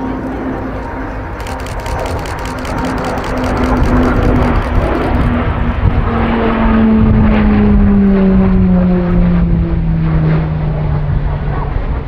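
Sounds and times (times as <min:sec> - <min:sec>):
propeller planes flying past: 0:00.0 - 0:12.0.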